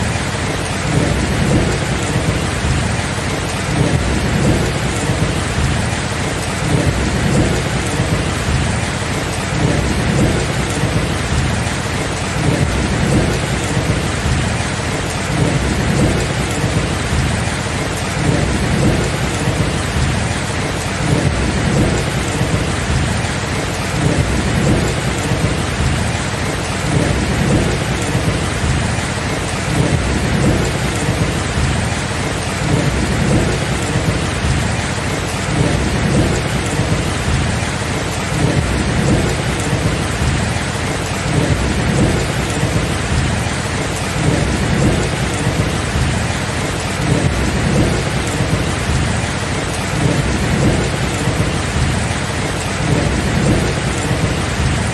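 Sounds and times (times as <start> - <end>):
heavy rain: 0.0 - 54.9
rolling thunder: 0.0 - 54.9.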